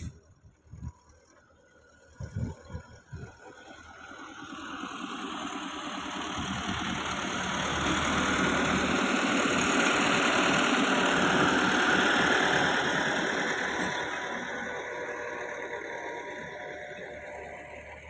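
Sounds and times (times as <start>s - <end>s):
tractor diesel engine passing: 0.0s - 18.0s.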